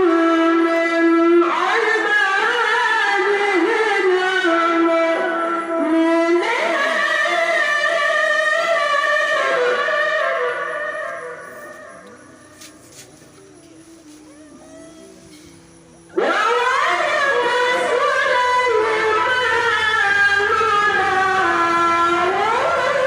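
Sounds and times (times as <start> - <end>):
person reciting melodically: 0.0 - 15.4, 16.0 - 23.0.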